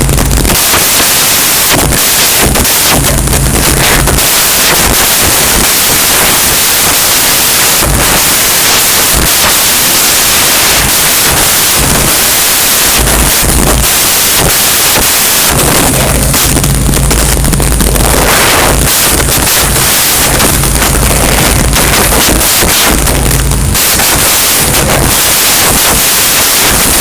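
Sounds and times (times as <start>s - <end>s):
low rumbles: 0.0s - 0.5s, 1.8s - 6.9s, 10.1s - 27.0s
loud rushing hiss: 0.0s - 27.0s.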